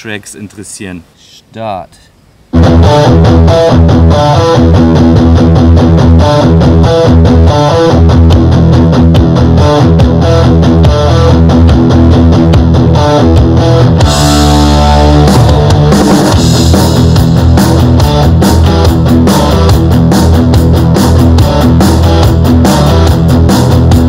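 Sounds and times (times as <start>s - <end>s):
rock music with distorted guitar: 2.6s - 24.0s.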